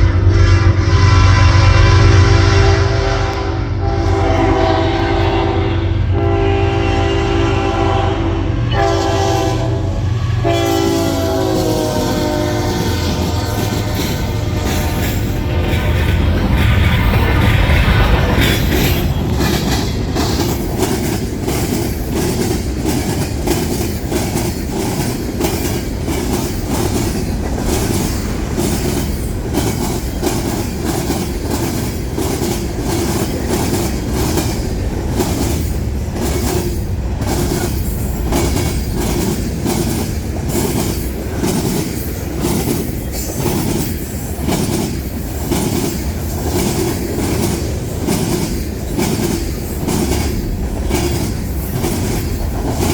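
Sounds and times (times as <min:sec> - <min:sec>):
freight train rumble: 0:00.0 - 0:52.9
train wheels clicking over rail joints: 0:10.3 - 0:52.9.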